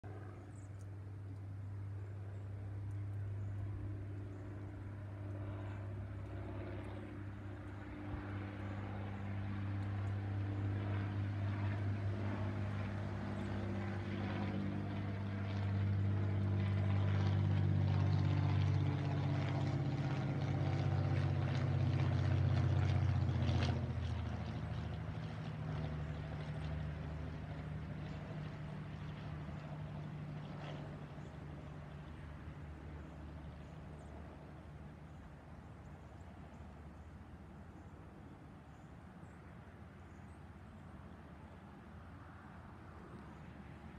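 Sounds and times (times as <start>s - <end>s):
propeller plane droning overhead: 0.0s - 43.9s.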